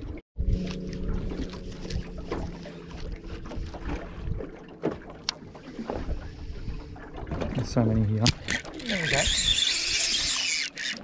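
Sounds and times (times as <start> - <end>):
water slapping against boat hull: 0.6 - 9.5.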